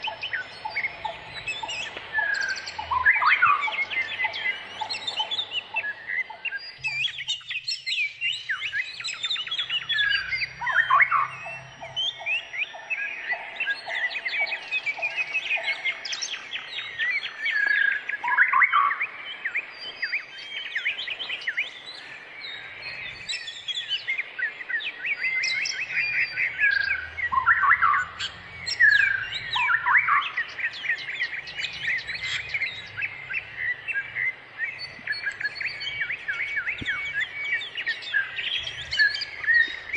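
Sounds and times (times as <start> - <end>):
birds chirping in chorus: 0.0 - 39.9
falling bird calls: 0.0 - 39.9
repeated lower bird notes: 0.0 - 39.9.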